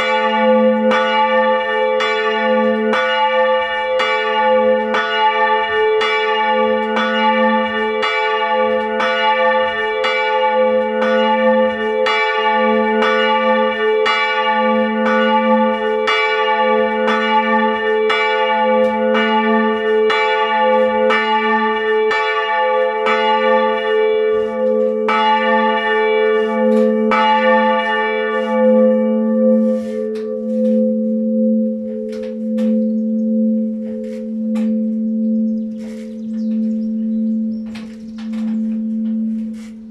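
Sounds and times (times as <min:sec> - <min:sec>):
church bells ringing: 0:00.0 - 0:39.9
deep bell hum: 0:00.0 - 0:39.9.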